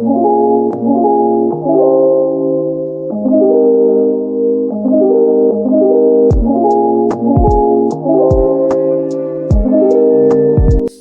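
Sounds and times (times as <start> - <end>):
mellow music with soft beat: 0.0 - 11.0.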